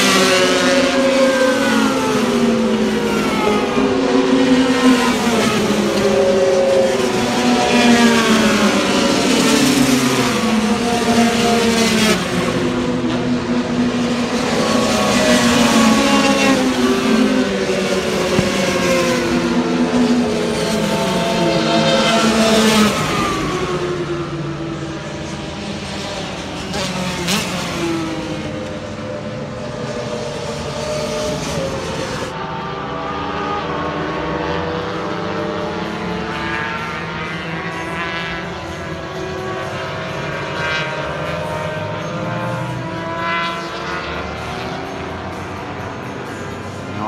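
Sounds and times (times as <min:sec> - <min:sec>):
racing motorcycles accelerating: 0:00.0 - 0:47.0.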